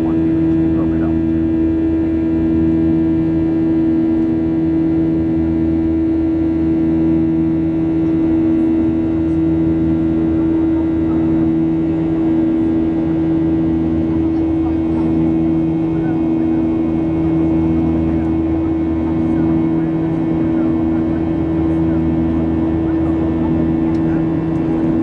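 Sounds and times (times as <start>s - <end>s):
airplane cabin engine drone: 0.0s - 25.0s.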